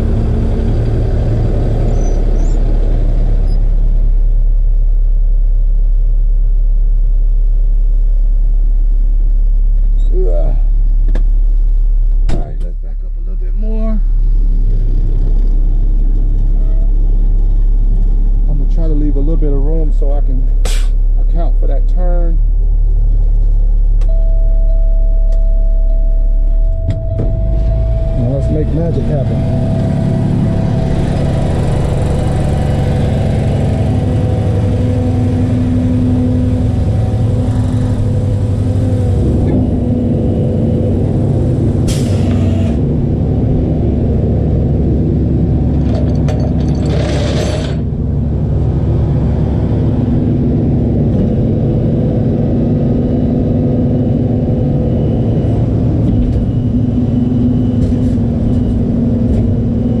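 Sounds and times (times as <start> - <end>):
truck engine whining: 0.0 - 4.7, 12.4 - 60.0.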